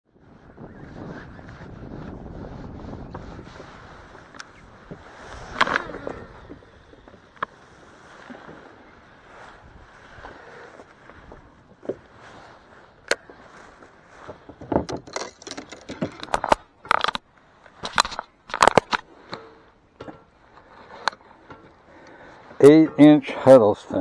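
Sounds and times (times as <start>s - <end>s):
fishing tackle clicks and scrapes: 2.9s - 23.6s.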